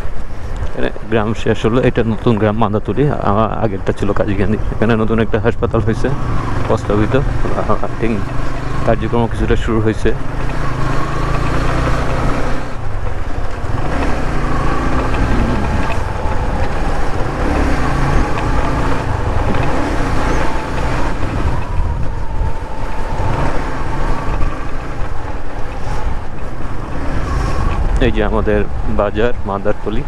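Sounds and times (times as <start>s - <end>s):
motorcycle engine running: 0.0s - 29.0s
faint engine whine: 0.0s - 30.0s
wind buffeting microphone: 0.0s - 30.0s.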